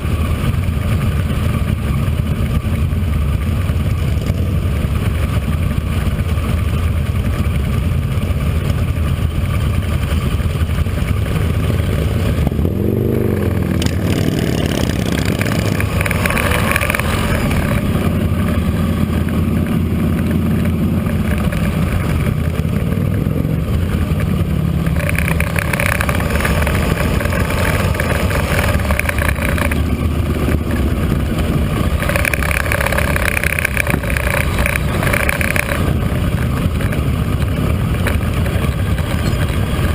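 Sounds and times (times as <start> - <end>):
motorcycle engines rumbling: 0.0 - 39.9
motorcycle revving: 0.0 - 39.9.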